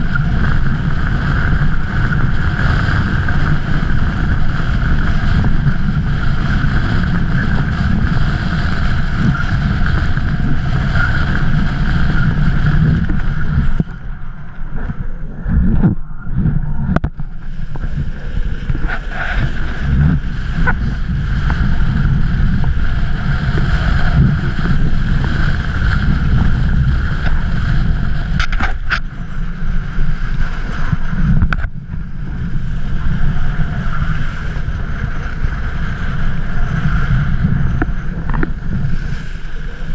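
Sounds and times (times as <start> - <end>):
strong wind buffeting microphone: 0.0 - 39.9.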